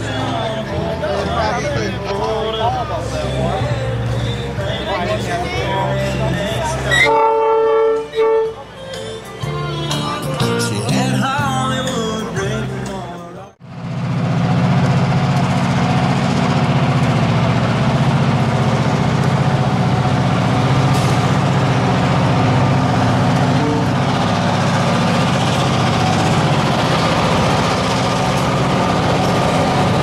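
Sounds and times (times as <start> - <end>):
diesel locomotive engine droning: 0.0 - 30.0.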